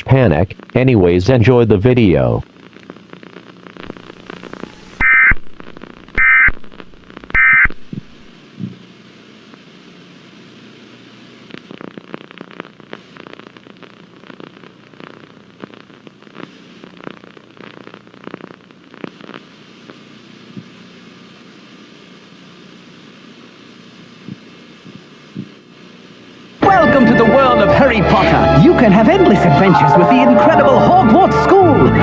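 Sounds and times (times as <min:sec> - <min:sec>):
faint hiss: 0:00.0 - 0:26.6
irregular crackles and pops: 0:00.3 - 0:00.9, 0:01.5 - 0:26.6.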